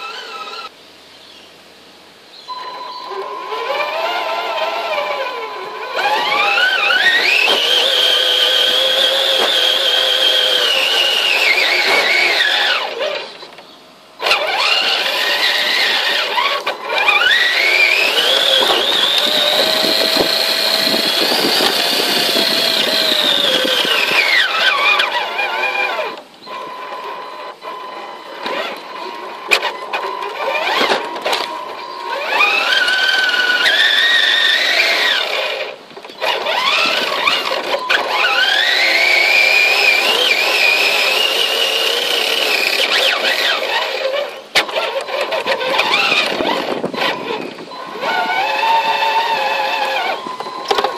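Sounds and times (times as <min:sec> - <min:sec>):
toy truck electric motor whining: 0:00.0 - 0:00.8, 0:02.5 - 0:50.9.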